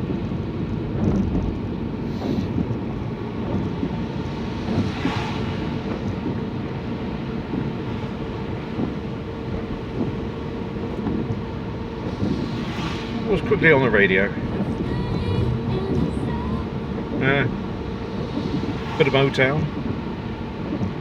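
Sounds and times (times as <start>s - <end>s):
car driving on wet road: 0.0s - 21.0s.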